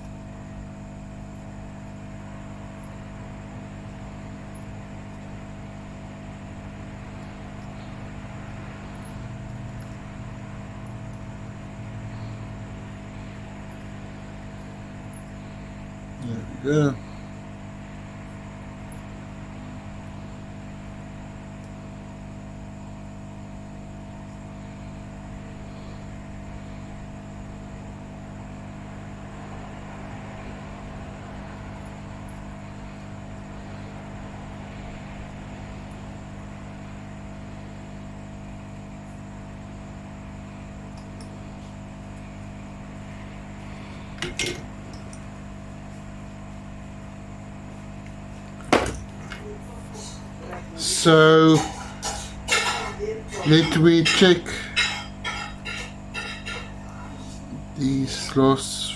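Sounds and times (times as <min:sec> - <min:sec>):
bench equipment hum: 0:00.0 - 0:58.9.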